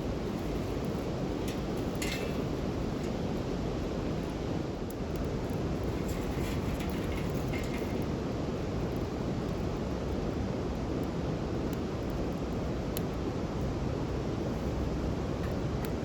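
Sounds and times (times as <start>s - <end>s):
campfire burning: 0.0s - 16.0s
fire crackles: 0.0s - 16.0s.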